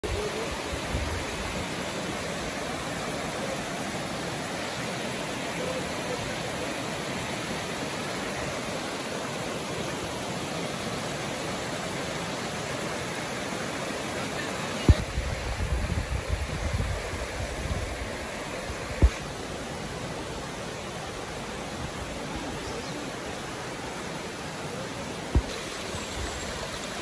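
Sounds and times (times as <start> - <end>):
stream rushing over rock: 0.0 - 27.0.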